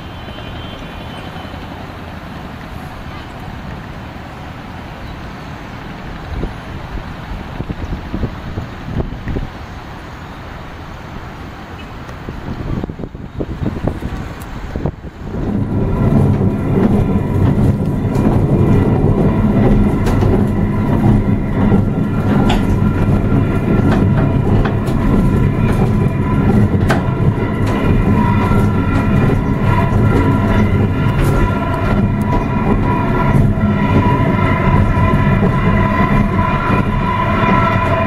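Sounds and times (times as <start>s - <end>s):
funicular car running on rails: 0.0s - 38.0s.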